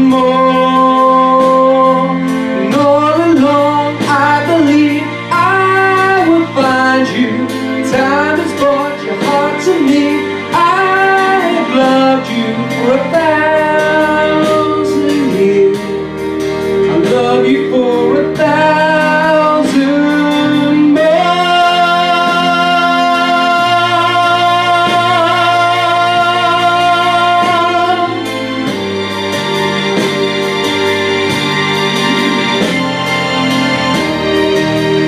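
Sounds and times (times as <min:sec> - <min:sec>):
man singing into a microphone: 0:00.0 - 0:28.5
instrumental backing music: 0:00.0 - 0:35.0.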